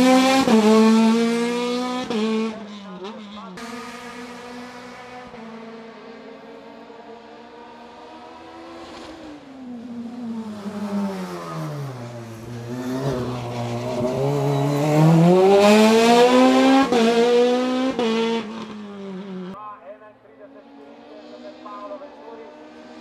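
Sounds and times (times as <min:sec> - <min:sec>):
race car engine accelerating: 0:00.0 - 0:19.6.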